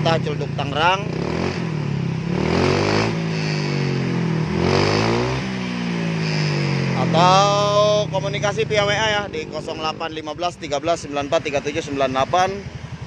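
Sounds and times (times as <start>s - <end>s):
scooter engine revving and idling: 0.0s - 13.0s.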